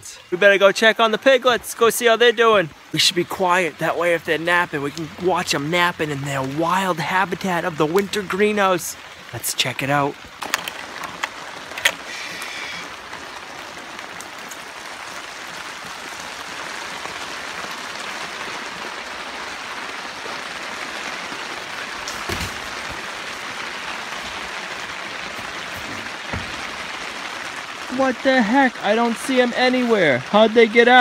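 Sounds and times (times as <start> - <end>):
rain on plastic cover: 0.0 - 31.0.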